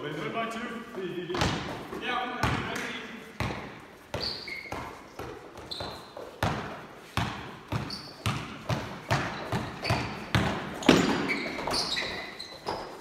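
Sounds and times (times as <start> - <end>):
basketball bouncing on court: 1.3 - 13.0
sneaker squeaks: 1.3 - 13.0.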